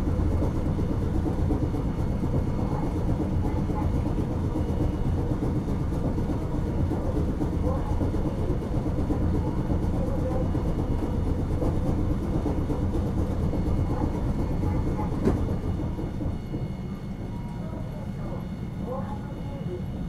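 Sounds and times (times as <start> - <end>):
streetcar wheels rumbling on rails: 0.0 - 20.0.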